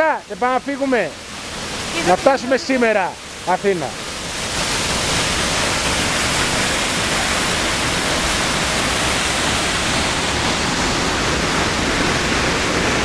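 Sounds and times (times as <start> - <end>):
waterfall and river roaring: 0.0 - 13.0.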